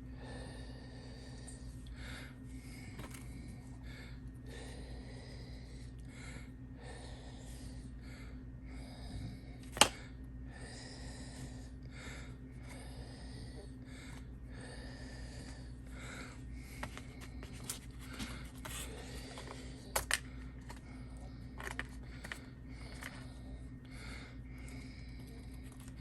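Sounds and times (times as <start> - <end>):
electrical hum: 0.0 - 26.0
breathing close to microphone: 0.1 - 26.0.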